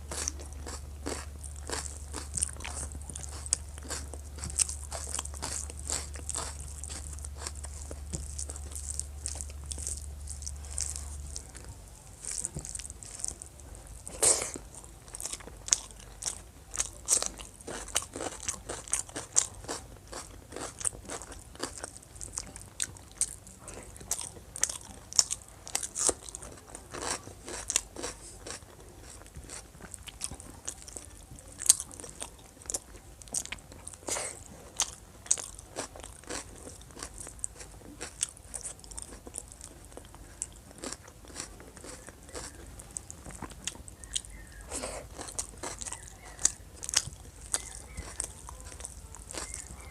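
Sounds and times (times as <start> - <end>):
chewing and crunching food: 0.0 - 49.9
low steady hum: 0.0 - 49.9.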